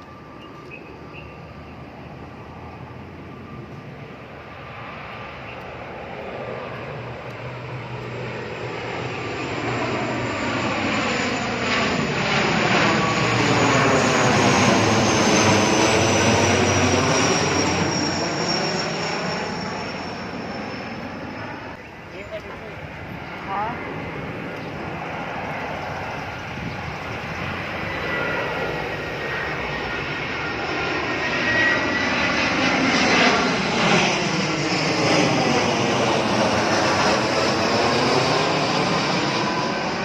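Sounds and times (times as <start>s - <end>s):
airplane engine flying over: 0.0s - 40.0s.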